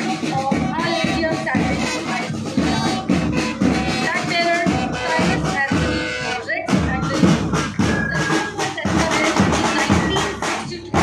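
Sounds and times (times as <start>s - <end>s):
crowd voices: 0.0s - 11.0s
marching band playing: 0.0s - 11.0s
marching drum beat: 0.0s - 11.0s.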